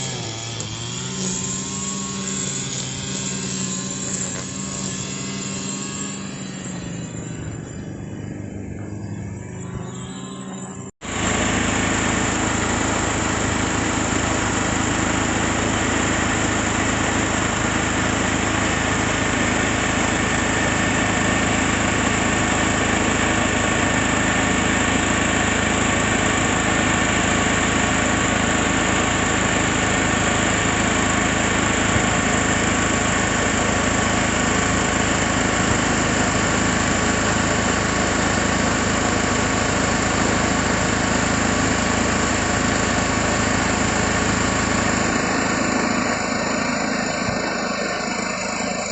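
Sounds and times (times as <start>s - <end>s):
small petrol engine running: 0.0s - 48.9s.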